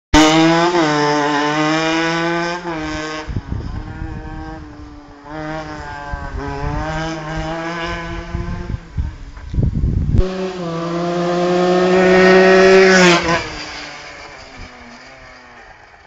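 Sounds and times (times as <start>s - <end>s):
go-kart engine revving: 0.2s - 9.2s, 10.2s - 16.0s.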